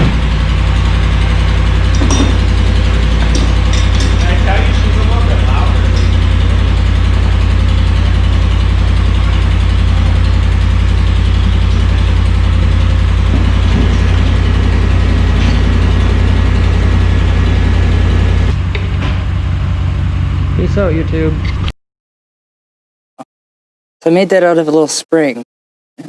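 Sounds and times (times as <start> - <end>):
engine running with low rumble: 0.0 - 21.7.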